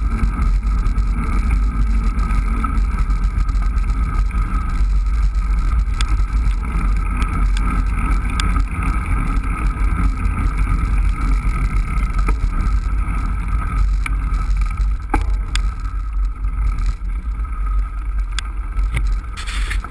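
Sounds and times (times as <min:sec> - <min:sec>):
bicycle clicks and knocks: 0:00.0 - 0:19.9
tyre noise on paved path: 0:00.0 - 0:19.9
wind rumble on microphone: 0:00.0 - 0:19.9.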